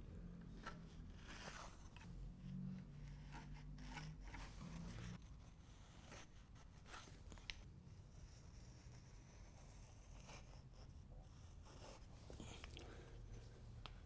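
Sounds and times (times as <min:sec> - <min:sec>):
pencil scratching: 0:00.6 - 0:12.6.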